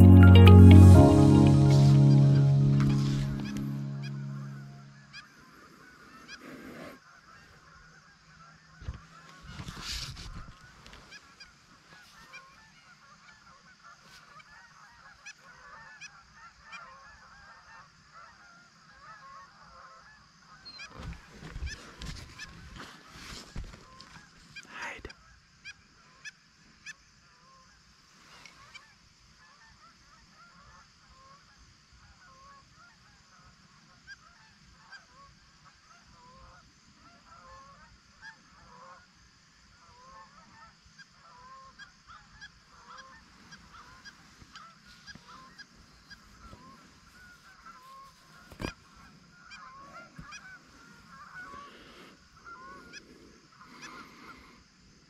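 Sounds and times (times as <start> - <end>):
geese honking faintly: 0.0 - 55.0.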